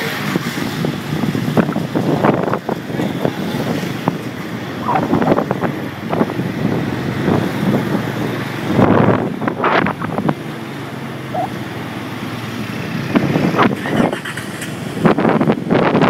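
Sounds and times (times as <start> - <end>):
traffic on flooded street: 0.0 - 16.0.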